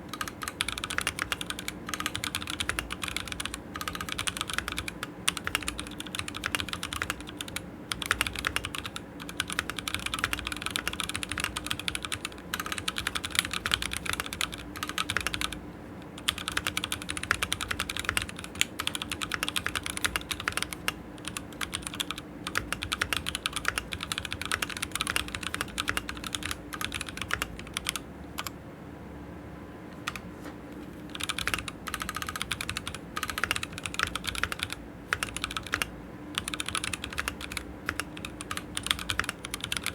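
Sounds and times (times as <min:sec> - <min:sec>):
mechanical keyboard typing: 0:00.0 - 0:28.6, 0:30.0 - 0:30.2, 0:31.0 - 0:39.9.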